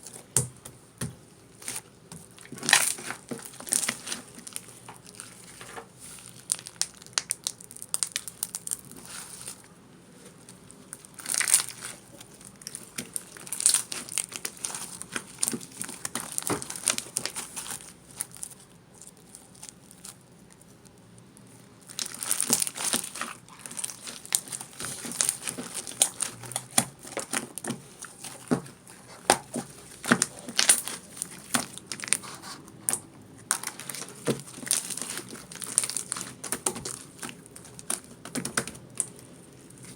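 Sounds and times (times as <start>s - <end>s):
crinkly material rustling: 1.1s - 39.9s.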